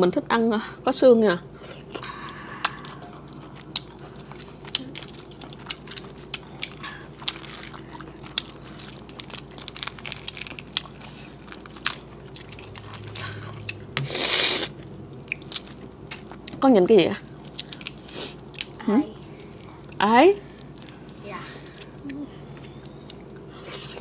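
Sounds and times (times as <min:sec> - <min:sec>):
chewing: 0:01.7 - 0:16.6, 0:17.2 - 0:24.0.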